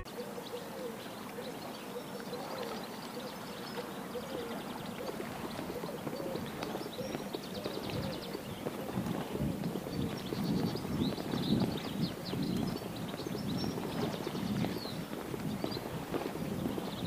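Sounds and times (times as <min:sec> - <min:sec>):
birds chirping faintly: 0:00.0 - 0:17.0
steady low hiss: 0:00.0 - 0:17.0.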